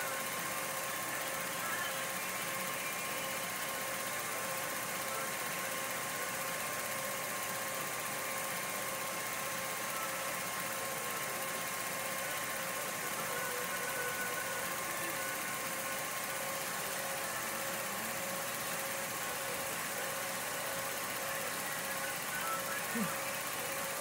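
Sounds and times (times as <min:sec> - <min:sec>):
film projector whirring: 0:00.0 - 0:24.0.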